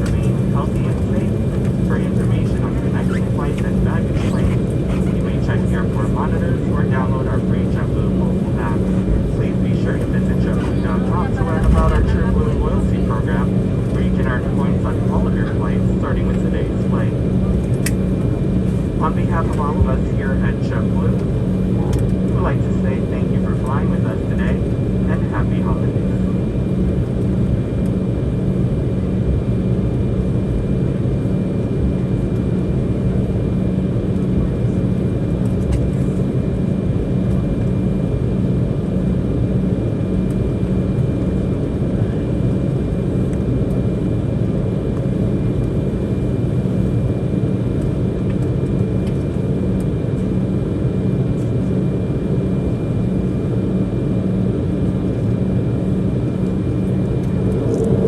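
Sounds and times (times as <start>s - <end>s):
jet engines idling from cabin: 0.0s - 58.0s.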